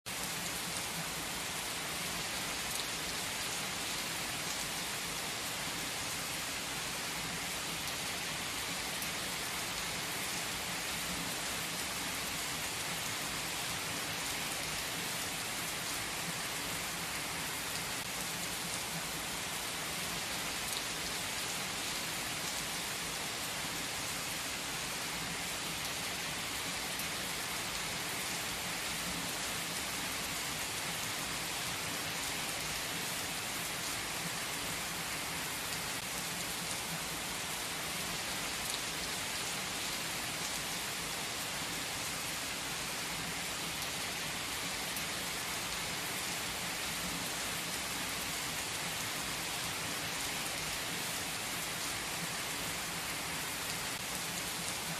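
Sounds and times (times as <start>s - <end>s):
heavy rain on pavement: 0.1s - 54.9s.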